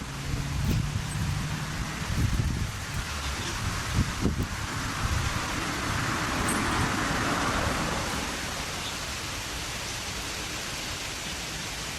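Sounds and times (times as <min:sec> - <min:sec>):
steady rushing noise: 0:00.0 - 0:11.9.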